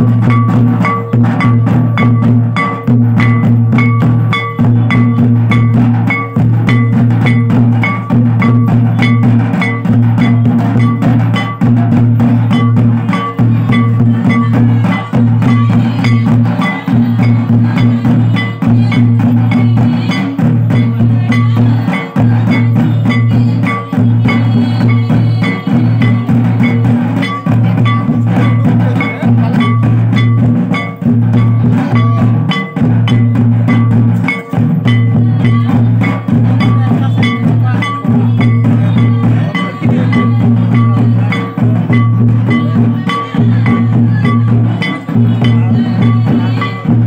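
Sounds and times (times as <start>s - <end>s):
folk drums in dance rhythm: 0.0s - 47.0s.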